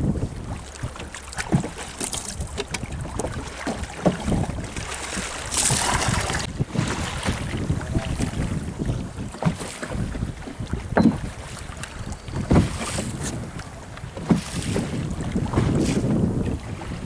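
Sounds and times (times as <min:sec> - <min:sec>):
sea waves around boat: 0:00.0 - 0:17.0
wind buffeting microphone: 0:00.0 - 0:17.0.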